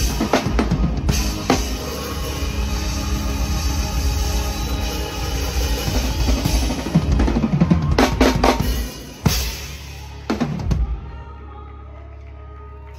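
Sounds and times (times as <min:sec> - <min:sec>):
band playing: 0:00.0 - 0:11.2.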